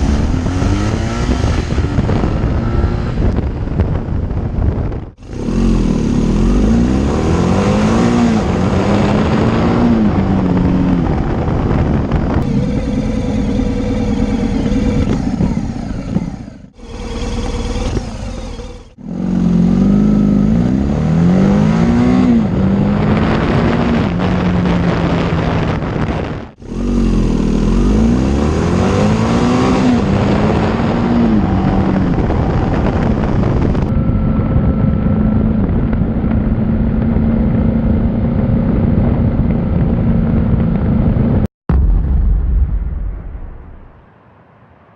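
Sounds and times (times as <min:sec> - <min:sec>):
motorcycle engine accelerating: 0:00.0 - 0:43.3.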